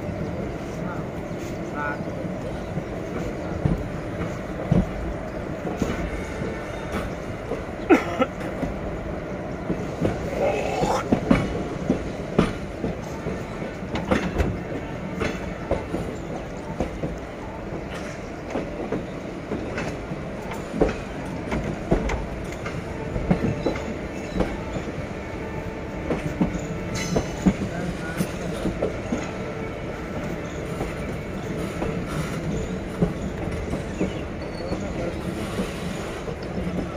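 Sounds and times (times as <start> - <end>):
train wheels rumbling over rails: 0.0 - 36.9.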